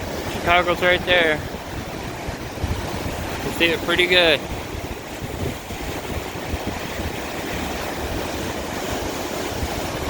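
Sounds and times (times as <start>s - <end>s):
waves breaking on shore: 0.0s - 10.0s
wind rumbling on microphone: 0.0s - 10.0s.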